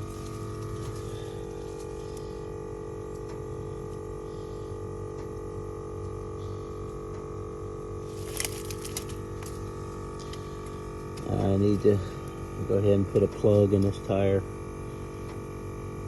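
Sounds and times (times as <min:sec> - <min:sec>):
air compressor humming: 0:00.0 - 0:16.0.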